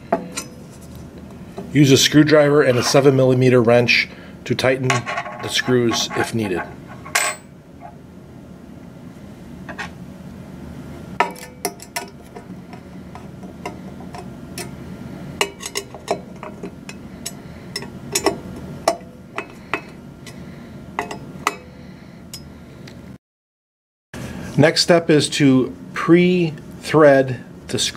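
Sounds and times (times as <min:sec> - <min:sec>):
steady low hum: 0:00.0 - 0:23.2, 0:24.2 - 0:27.9.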